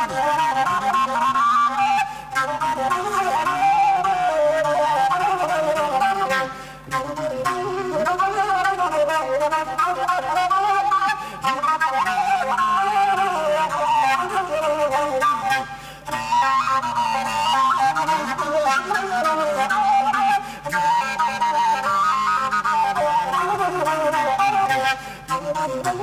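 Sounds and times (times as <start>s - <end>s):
wooden flute folk melody: 0.0s - 26.0s.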